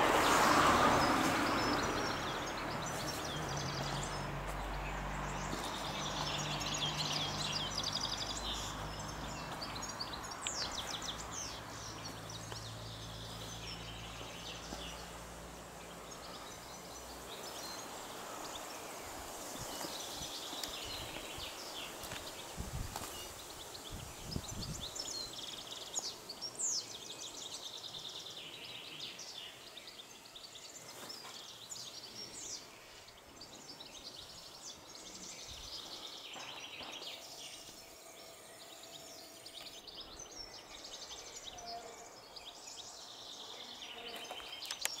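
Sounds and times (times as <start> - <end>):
faint outdoor background: 0.0 - 45.0
songbirds singing and chirping: 0.0 - 45.0.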